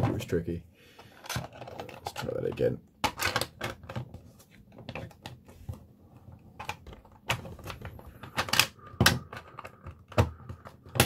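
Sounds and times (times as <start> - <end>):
plastic parts clicking and clacking: 1.0 - 11.0.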